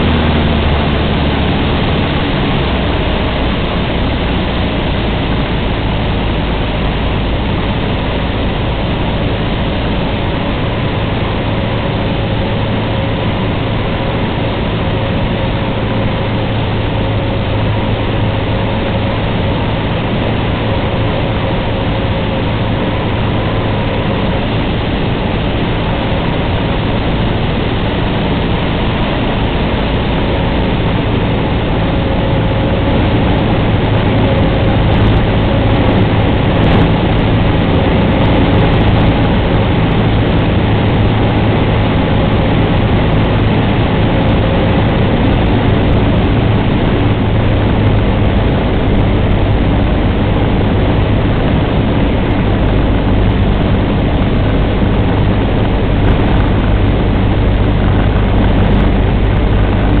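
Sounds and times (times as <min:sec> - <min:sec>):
light aircraft engine droning: 0:00.0 - 1:00.0.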